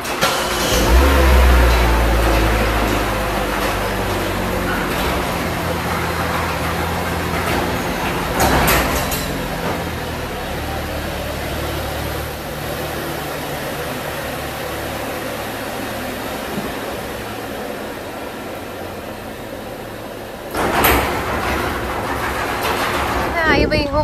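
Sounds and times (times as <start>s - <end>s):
garage door opener humming: 0.0s - 23.7s
car engine starting and idling: 0.0s - 24.0s.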